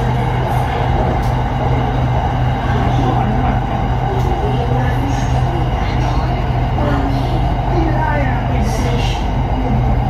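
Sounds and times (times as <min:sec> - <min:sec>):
train cabin rumble: 0:00.0 - 0:10.0.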